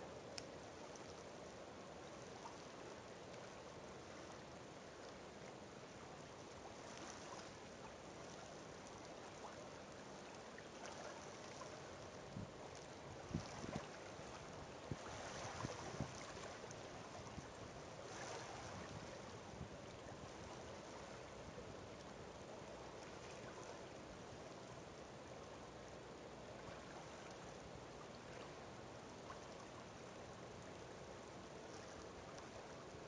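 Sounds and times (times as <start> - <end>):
water lapping at a shore: 0.0 - 33.0.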